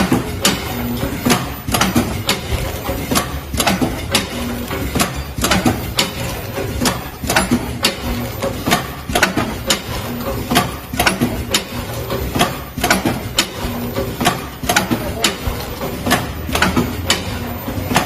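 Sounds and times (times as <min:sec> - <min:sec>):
packing machine clicking and clacking: 0:00.0 - 0:18.0.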